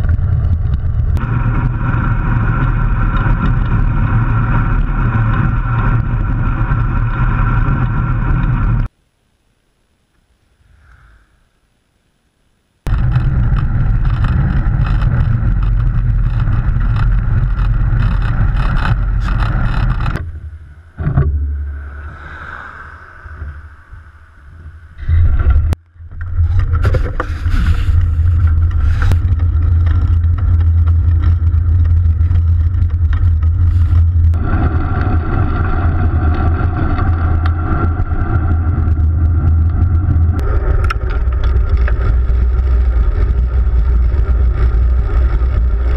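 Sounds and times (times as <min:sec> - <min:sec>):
wind buffeting microphone: 0:00.0 - 0:08.9, 0:12.9 - 0:45.9
road rumble: 0:00.0 - 0:09.0, 0:12.7 - 0:45.9.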